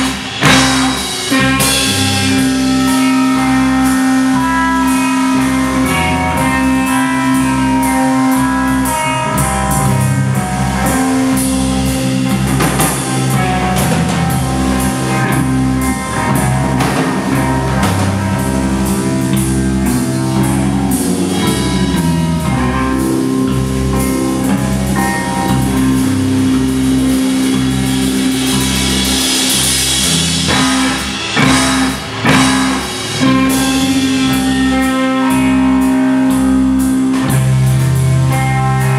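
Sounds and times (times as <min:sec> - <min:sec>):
instrumental rock band playing: 0:00.0 - 0:38.9.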